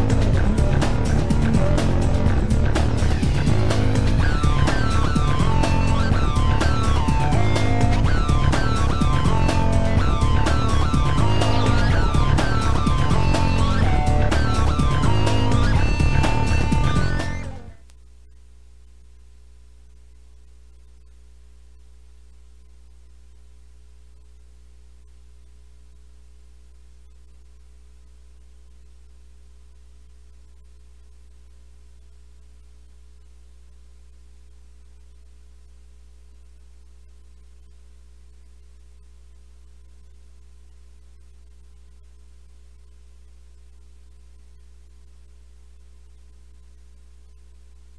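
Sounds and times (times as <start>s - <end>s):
low electrical hum: 0.0s - 47.9s.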